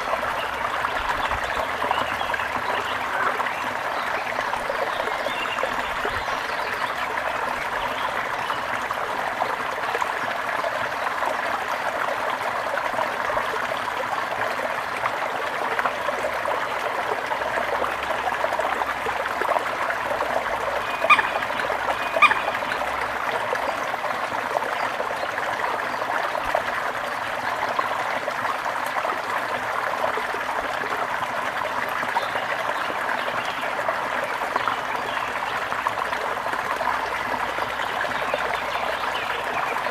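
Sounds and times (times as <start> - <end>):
small river babbling: 0.0 - 39.9.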